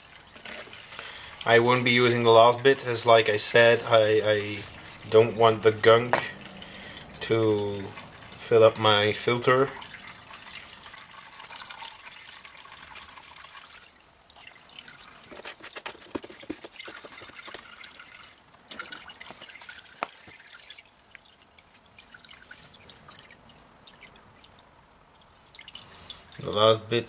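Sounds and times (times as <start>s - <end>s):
liquid trickling and dripping: 0.0s - 27.0s.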